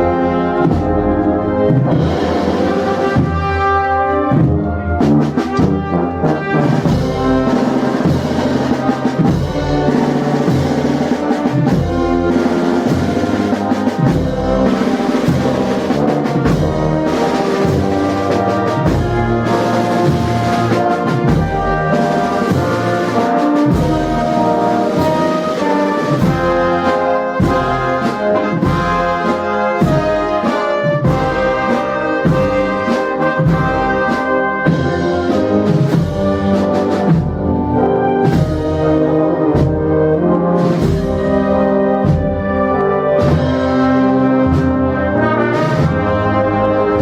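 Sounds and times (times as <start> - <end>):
drums: 0.0 - 47.0
trombones and trumpets: 0.0 - 47.0
wind band playing a march: 0.0 - 47.0.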